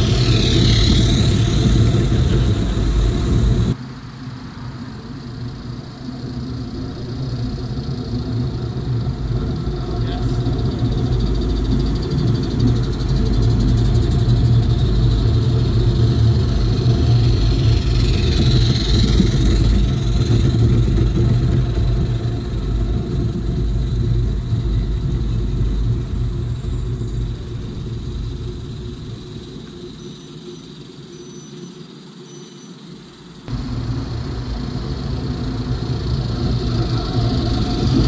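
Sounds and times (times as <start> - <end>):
miniature train wheels rumbling on rails: 0.0 - 3.8, 5.2 - 31.1, 33.4 - 38.0.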